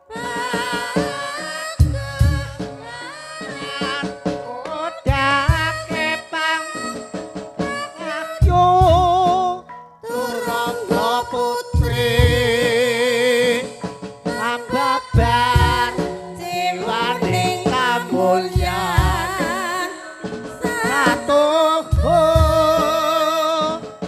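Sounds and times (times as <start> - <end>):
solo vocalist singing with vibrato: 0.0 - 24.0
low drum strokes: 0.1 - 6.2, 8.4 - 9.6, 10.4 - 24.0.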